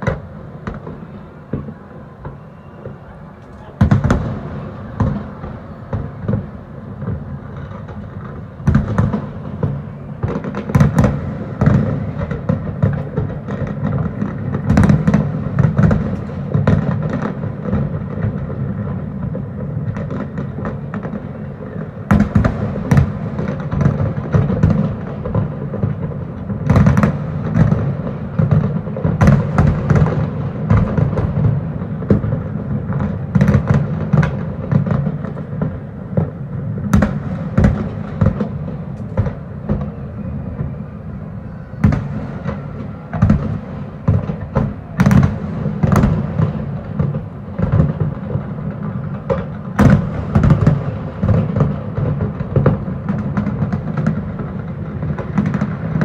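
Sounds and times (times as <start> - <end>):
fireworks cracks and bangs: 0.0 - 56.0.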